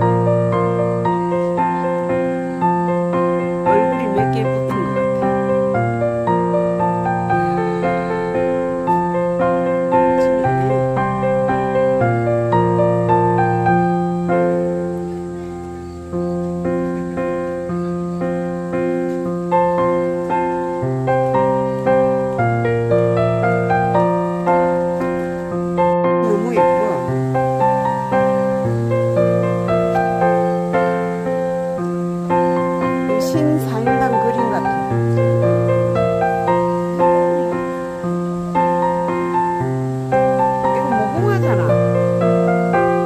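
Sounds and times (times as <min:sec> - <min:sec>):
gentle piano piece: 0:00.0 - 0:43.0.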